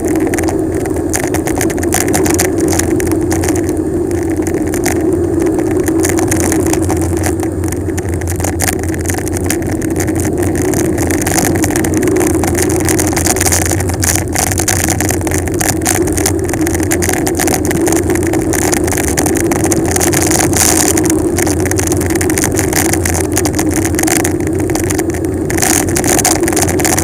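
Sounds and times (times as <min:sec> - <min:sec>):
bicycle tyre noise: 0:00.0 - 0:27.0
wind over microphone: 0:00.0 - 0:27.0.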